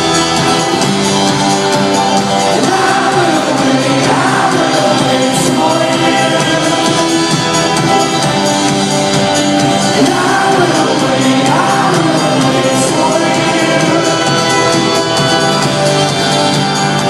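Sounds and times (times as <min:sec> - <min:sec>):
live band music: 0:00.0 - 0:17.0
person singing: 0:00.0 - 0:17.0.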